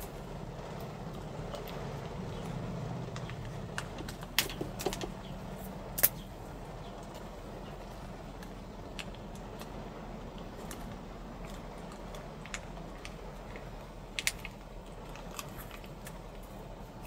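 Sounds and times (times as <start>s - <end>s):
wind and rain rushing: 0.0s - 17.0s.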